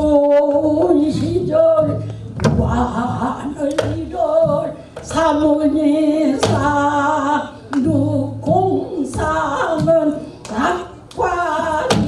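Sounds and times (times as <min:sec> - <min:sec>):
elderly woman singing with vibrato: 0:00.0 - 0:12.0.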